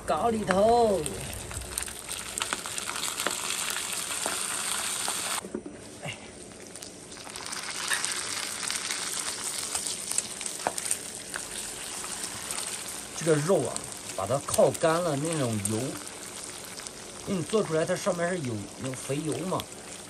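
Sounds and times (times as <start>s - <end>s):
meat sizzling in hot oil: 0.6s - 5.4s, 6.4s - 20.0s.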